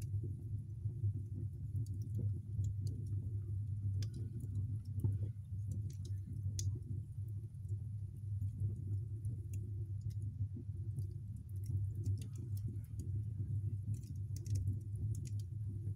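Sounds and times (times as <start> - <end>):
fire burning rumble: 0.0 - 15.9
fire crackling and popping: 0.0 - 15.9.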